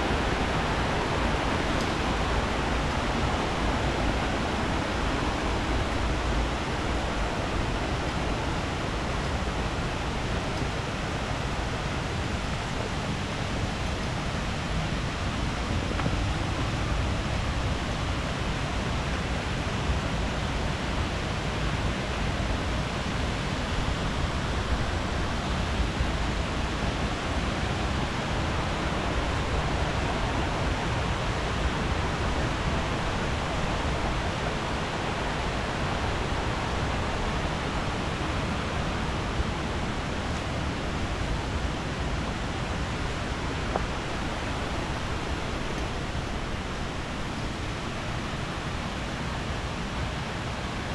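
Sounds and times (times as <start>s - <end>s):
waterfall rushing water: 0.0s - 50.9s.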